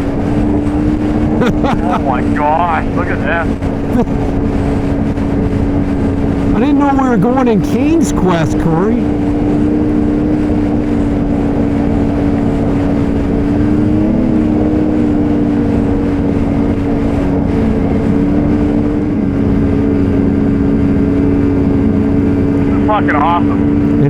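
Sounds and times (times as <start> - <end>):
rush of wind: 0.0 - 24.0
snowmobile engine cruising: 0.0 - 24.0
snowmobile track noise: 0.0 - 24.0.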